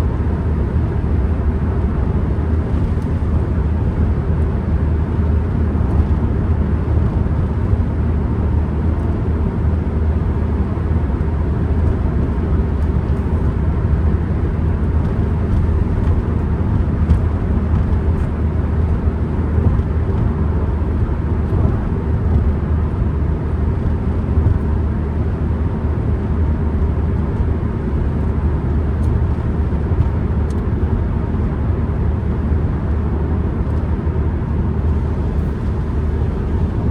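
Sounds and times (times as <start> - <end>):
road noise: 0.0 - 36.9
van engine rumble: 0.0 - 36.9.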